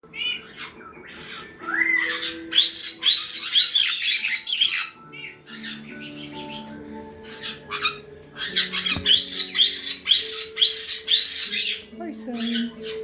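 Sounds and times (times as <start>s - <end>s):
parrots squawking: 0.0s - 13.0s
loud parrot screeches: 0.1s - 13.0s
music with held notes: 0.1s - 13.0s.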